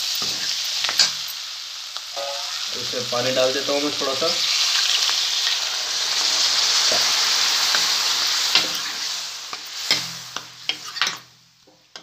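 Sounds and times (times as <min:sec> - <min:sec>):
onions and tomatoes sizzling in pan: 0:00.0 - 0:12.0.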